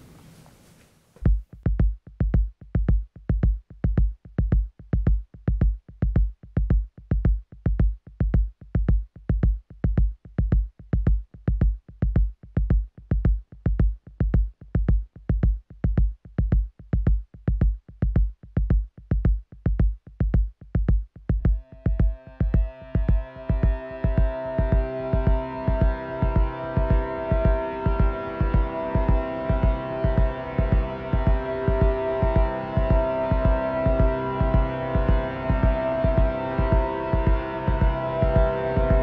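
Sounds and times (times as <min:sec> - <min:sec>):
electronic kick drum beating: 0:01.2 - 0:39.0.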